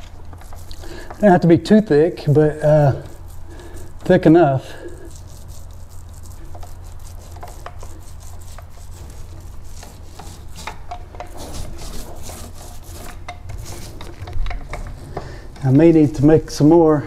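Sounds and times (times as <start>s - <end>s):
paint roller rolling: 0.0s - 17.0s.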